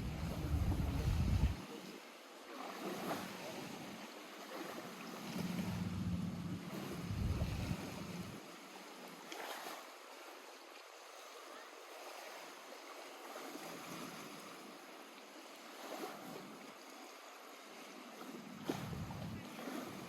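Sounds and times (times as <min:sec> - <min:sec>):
water lapping at shore: 0:00.0 - 0:20.0.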